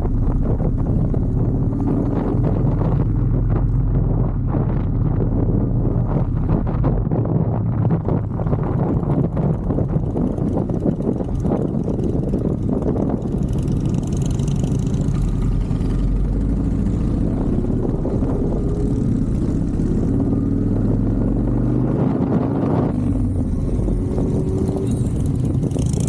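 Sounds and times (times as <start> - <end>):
motorcycle engine rumble: 0.0 - 26.0.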